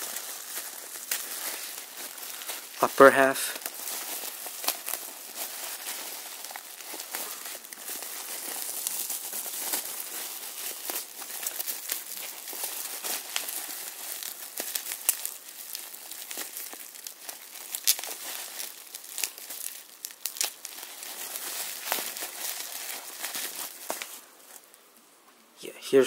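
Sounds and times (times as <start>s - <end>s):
plastic wrapping crinkling: 0.0s - 24.9s.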